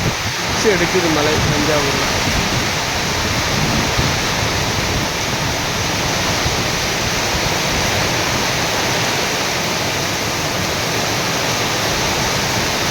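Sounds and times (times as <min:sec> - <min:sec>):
heavy rain pouring: 0:00.0 - 0:12.9.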